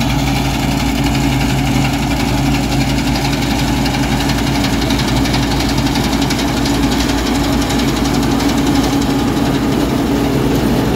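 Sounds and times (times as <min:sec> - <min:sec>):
combine harvester engine drone: 0:00.0 - 0:10.9.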